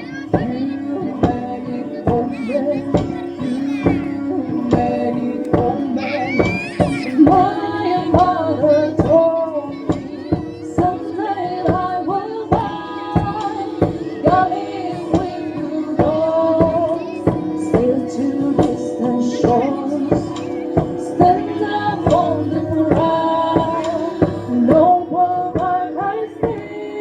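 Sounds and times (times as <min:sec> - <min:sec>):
wavering folk melody: 0:00.0 - 0:27.0
drum strokes: 0:00.3 - 0:26.6.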